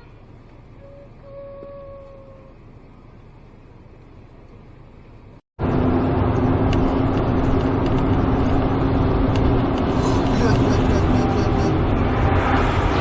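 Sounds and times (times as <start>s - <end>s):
car engine hum: 0.0s - 13.0s
road noise rumble: 0.0s - 13.0s.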